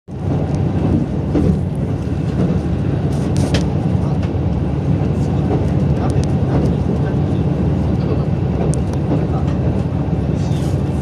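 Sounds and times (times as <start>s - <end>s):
train rumble from inside carriage: 0.1s - 11.0s.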